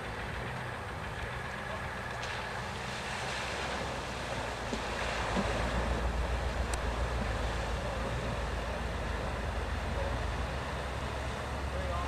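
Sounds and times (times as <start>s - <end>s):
vehicle engine rumble: 0.0s - 12.0s
rushing splashing water: 1.4s - 12.0s.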